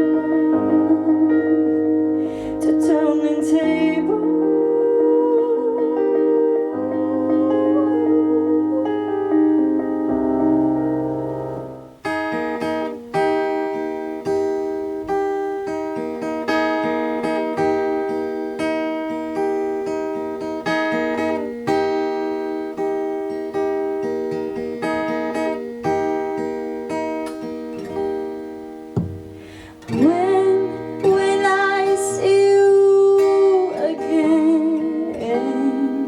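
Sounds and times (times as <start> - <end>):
acoustic guitar chords: 0.0 - 36.0.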